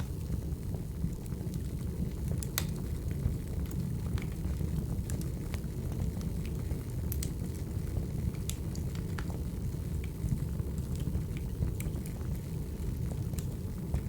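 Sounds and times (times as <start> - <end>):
crackles from burning logs: 0.0 - 14.0
low rumble of flames: 0.0 - 14.0.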